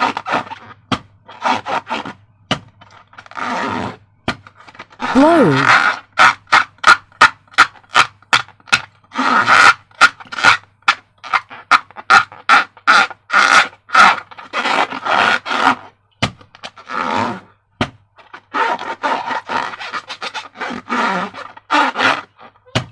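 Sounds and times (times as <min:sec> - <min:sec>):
rubbery squeaks and squelches: 0:00.0 - 0:17.5, 0:18.2 - 0:22.9.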